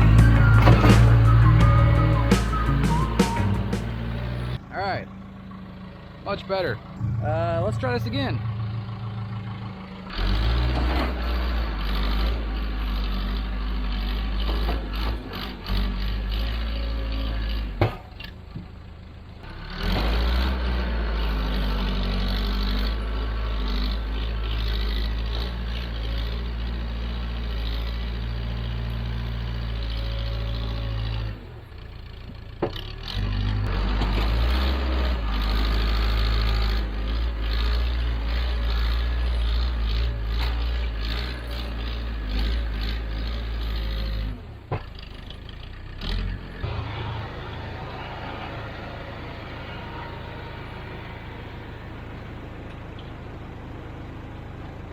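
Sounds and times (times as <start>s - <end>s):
diesel engine running hard: 0.0s - 54.9s.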